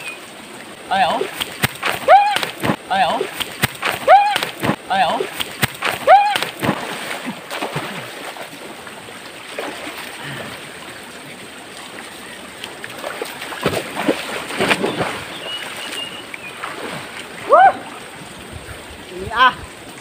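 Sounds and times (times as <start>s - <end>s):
river water flowing: 0.0s - 20.0s
water splashes and knocks: 1.2s - 10.8s, 12.0s - 19.0s.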